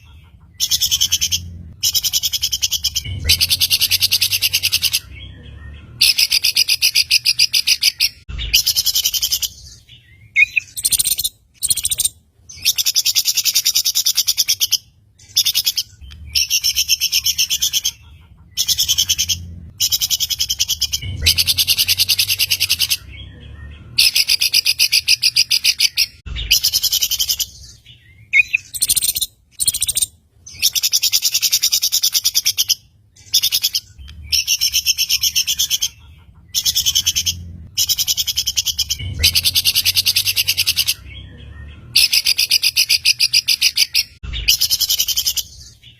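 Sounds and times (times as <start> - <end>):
songbird chattering song: 0.0 - 45.9.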